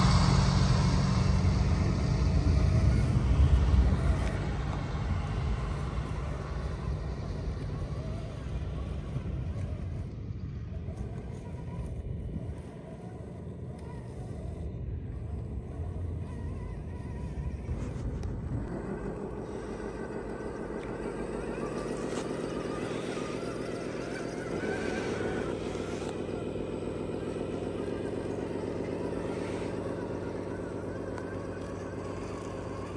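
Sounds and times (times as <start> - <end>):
electric motor and gears whining: 0.0 - 32.9.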